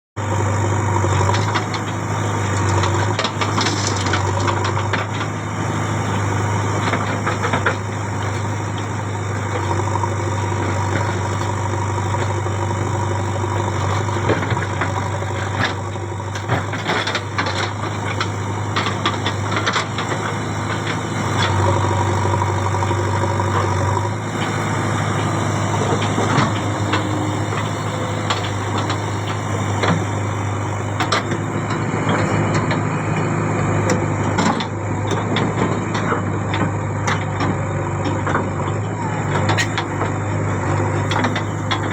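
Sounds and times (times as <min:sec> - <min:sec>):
tractor diesel engine running: 0:00.1 - 0:41.9.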